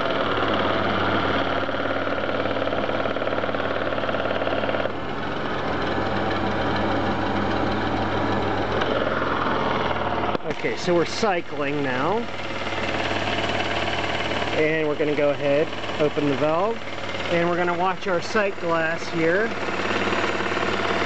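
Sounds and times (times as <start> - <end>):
ac compressor clatter: 0.0 - 21.0
car engine running: 0.0 - 21.0.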